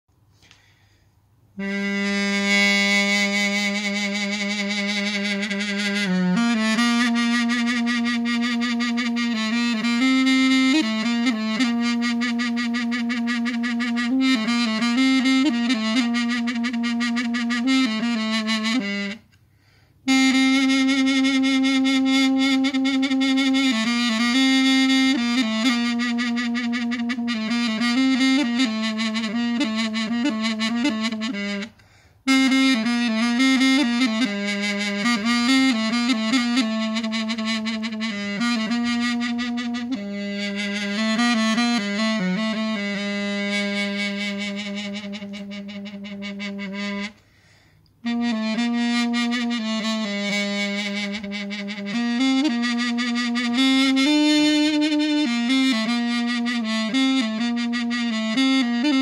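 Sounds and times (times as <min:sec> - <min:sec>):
double-reed woodwind melody: 0:01.5 - 0:19.4, 0:20.0 - 0:47.4, 0:48.0 - 0:59.0.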